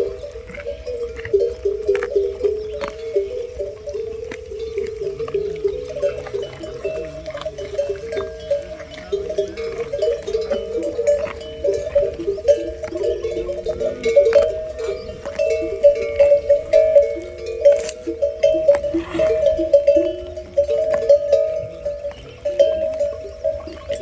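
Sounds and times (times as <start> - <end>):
camel bells clanking: 0.0 - 24.0.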